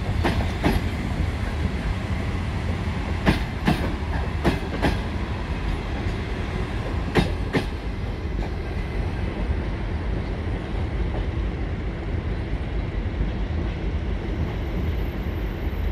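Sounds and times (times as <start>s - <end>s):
train wheels rumbling on track: 0.0s - 15.9s.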